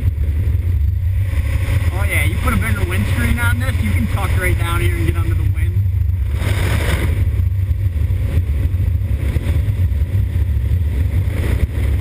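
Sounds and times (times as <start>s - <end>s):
motorcycle engine rumble: 0.0s - 12.0s
wind noise on microphone: 0.0s - 12.0s.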